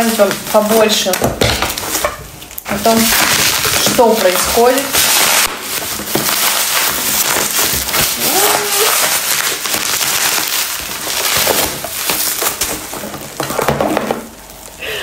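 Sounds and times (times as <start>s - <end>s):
plastic bag crinkling and tearing: 0.0s - 14.8s.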